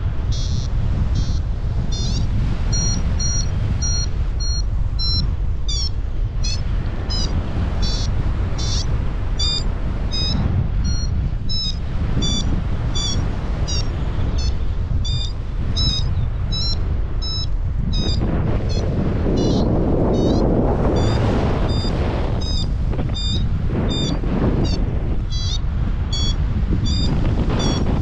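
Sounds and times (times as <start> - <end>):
wind on microphone: 0.0 - 28.0
variometer beeping: 0.3 - 28.0.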